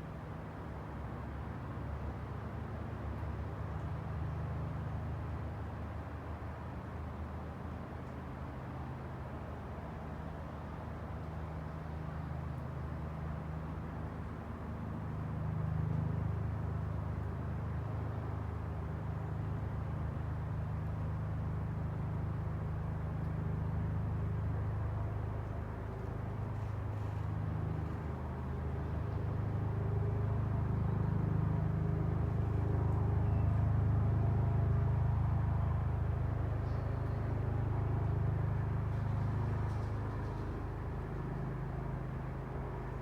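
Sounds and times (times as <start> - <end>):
distant road traffic rumble: 0.0 - 43.0.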